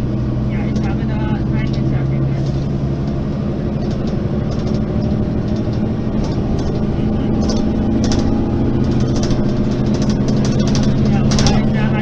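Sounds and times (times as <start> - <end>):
bus diesel engine droning: 0.0 - 12.0
light rattles: 0.6 - 12.0.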